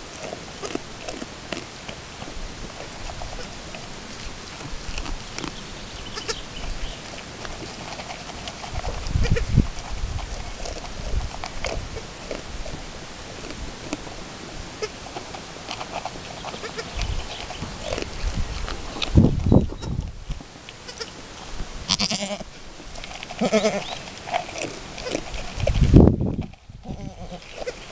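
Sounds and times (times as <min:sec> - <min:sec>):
goat crunching food: 0:00.0 - 0:27.9.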